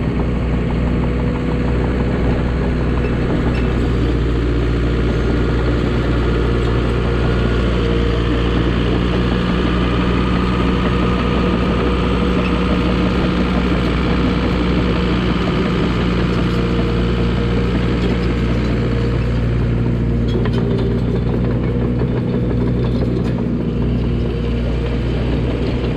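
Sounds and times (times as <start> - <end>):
bulldozer diesel engine running: 0.0 - 25.9.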